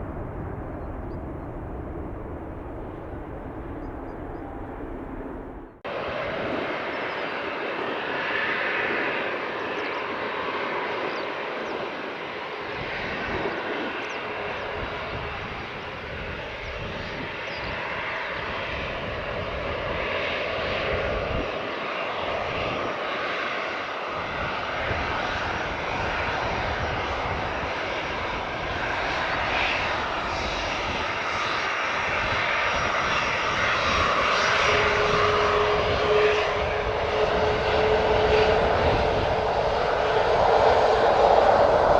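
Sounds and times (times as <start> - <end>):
airliner engines running: 0.0 - 41.9
steady engine whine: 0.0 - 41.9.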